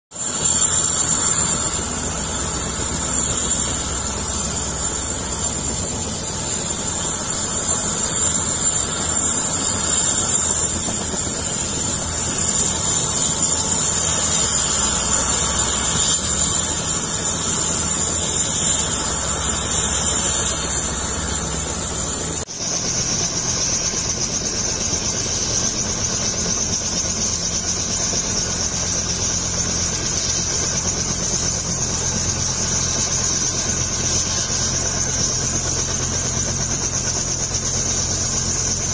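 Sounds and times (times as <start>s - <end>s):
helicopter rotor rumble: 0.1s - 38.9s
helicopter turbine whine: 0.1s - 38.9s.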